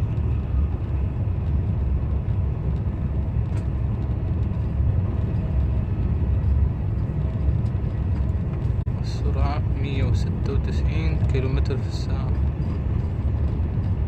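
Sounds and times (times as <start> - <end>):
high-speed train rumbling: 0.0 - 14.0.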